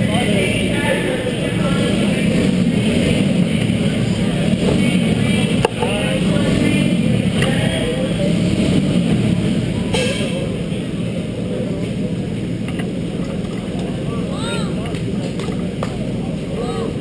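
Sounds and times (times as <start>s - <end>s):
small racing engines running: 0.0s - 17.0s
voices: 0.0s - 17.0s.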